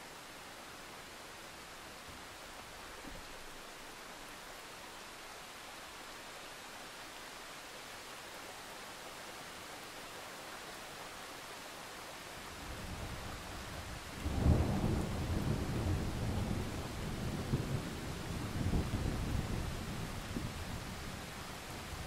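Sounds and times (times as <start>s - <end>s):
faint hiss: 0.0s - 22.0s.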